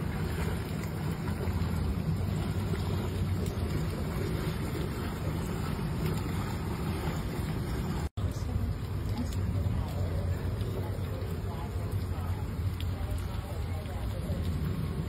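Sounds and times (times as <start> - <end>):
heavy rain on water: 0.0 - 15.0
low rumble: 0.0 - 15.0.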